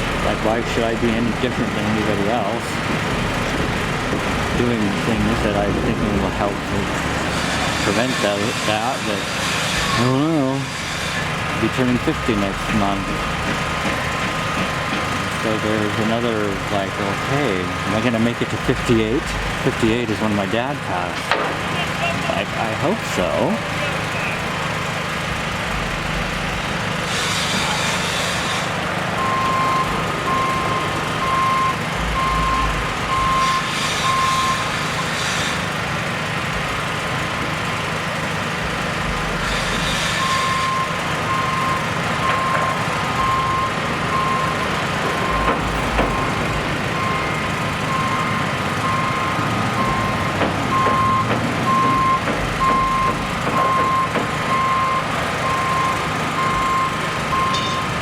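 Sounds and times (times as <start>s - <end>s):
reversing alarm beeping: 0.0s - 24.9s, 25.7s - 35.2s, 39.2s - 58.0s
diesel engine hum: 0.0s - 58.0s.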